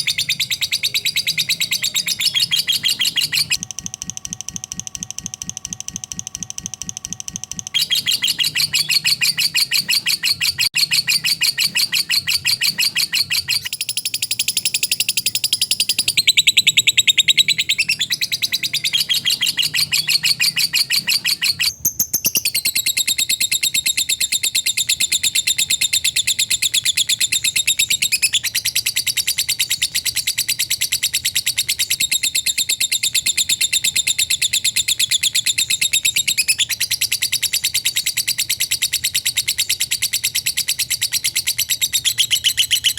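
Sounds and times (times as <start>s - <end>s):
lovebird rapid chattering song: 0.0s - 3.6s, 4.2s - 42.9s.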